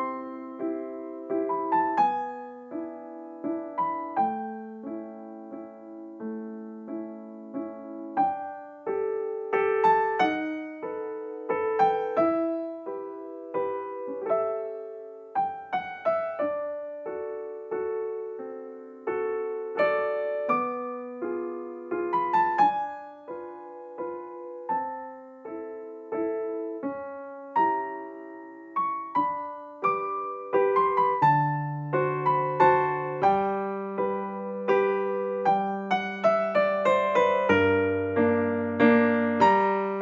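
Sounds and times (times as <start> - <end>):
slow piano melody: 0.0 - 40.0.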